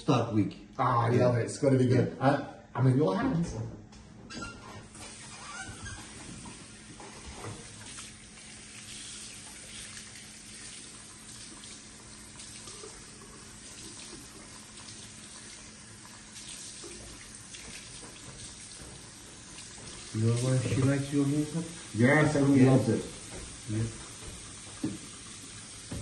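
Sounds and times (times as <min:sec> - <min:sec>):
tap water running into sink: 0:05.0 - 0:26.0.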